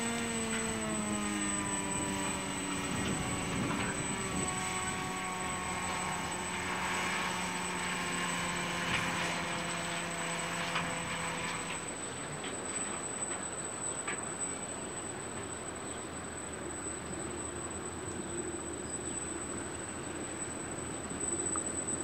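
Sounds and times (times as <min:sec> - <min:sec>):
train engine drone: 0:00.0 - 0:22.0.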